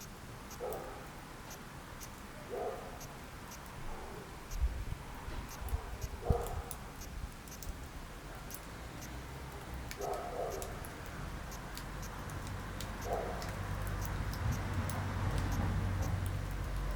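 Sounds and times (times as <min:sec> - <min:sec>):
wood fire crackling: 0:03.0 - 0:16.9.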